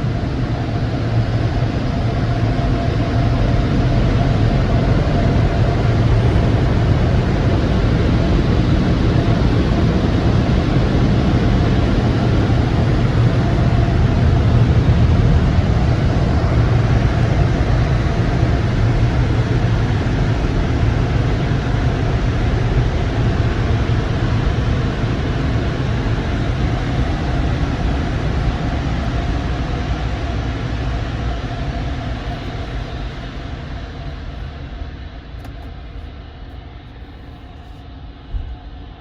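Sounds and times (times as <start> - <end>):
car wash machinery: 0.0 - 39.0.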